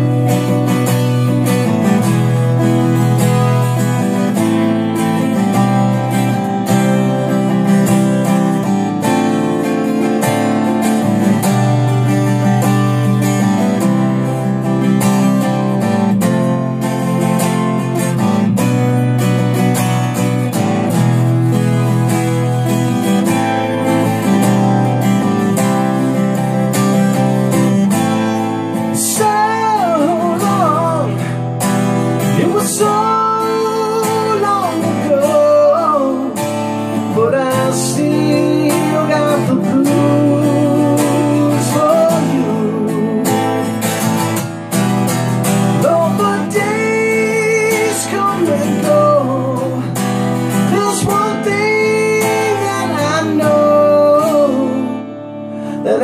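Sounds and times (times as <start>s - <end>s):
electric guitar solo: 0.0s - 56.0s.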